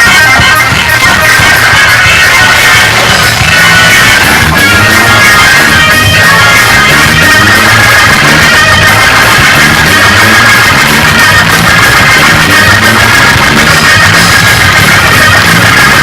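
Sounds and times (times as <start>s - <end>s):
church band playing gospel music: 0.0s - 16.0s
driving bass: 0.0s - 16.0s
guitar: 0.0s - 16.0s.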